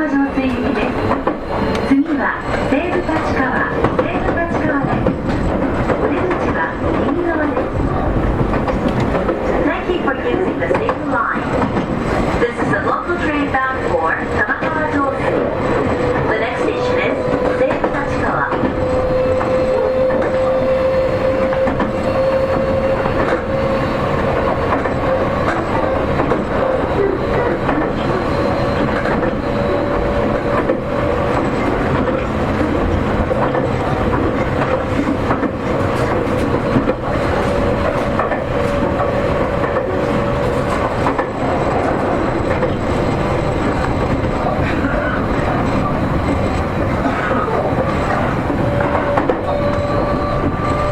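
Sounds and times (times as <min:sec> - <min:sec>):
rail joint clicks: 0:00.0 - 0:50.9
wheels rumbling on rails: 0:00.0 - 0:50.9.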